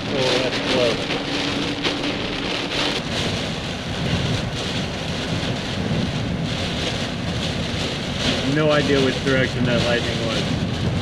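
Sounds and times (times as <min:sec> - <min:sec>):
low thunder rumbling: 0:00.0 - 0:11.0
steady rain falling: 0:00.0 - 0:11.0.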